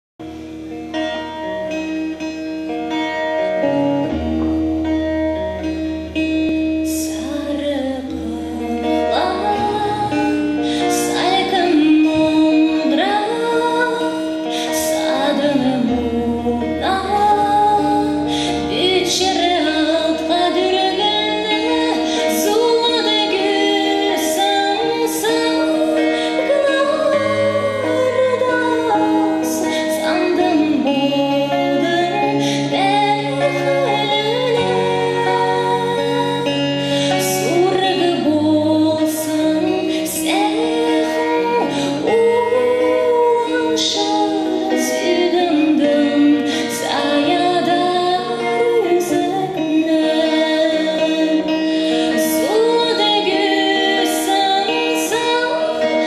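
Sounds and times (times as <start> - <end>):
held chords and bass notes: 0.2 - 46.4
twelve-string acoustic guitar: 0.2 - 56.0
woman singing: 2.9 - 56.0.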